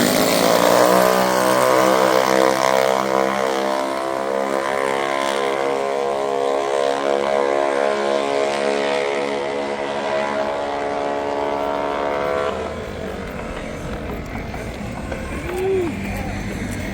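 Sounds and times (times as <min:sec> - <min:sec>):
minibike engine revving: 0:00.0 - 0:16.9.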